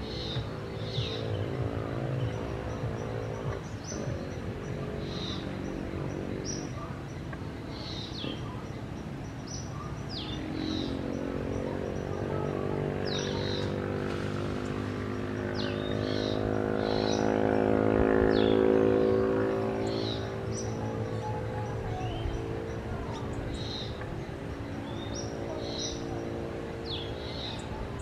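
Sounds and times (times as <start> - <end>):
low droning hum: 0.0 - 28.0.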